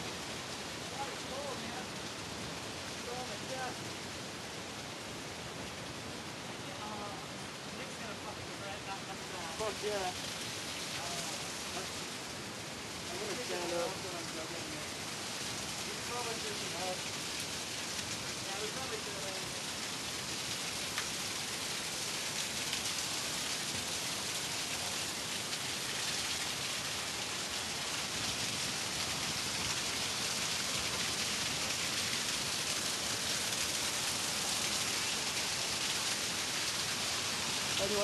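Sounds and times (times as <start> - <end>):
waterfall pouring onto rock: 0.1 - 5.7, 6.4 - 38.0.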